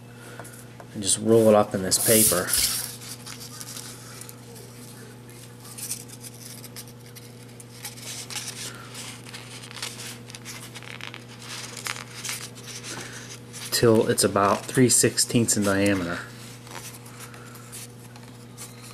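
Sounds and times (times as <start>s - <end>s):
steady low hum: 0.0s - 18.9s
paper rustling and crinkling: 1.4s - 18.9s.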